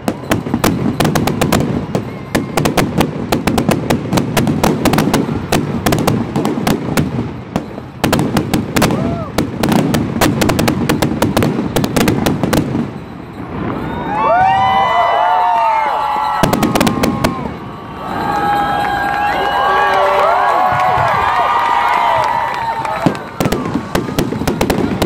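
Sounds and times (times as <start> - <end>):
firework whistles: 0.0 - 6.6, 10.5 - 25.0
fireworks bangs and crackles: 0.0 - 25.0.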